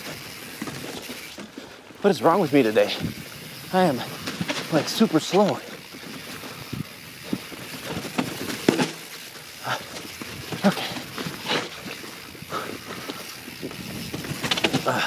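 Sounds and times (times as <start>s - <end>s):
bike knocking and rattling over rocks: 0.0s - 15.0s.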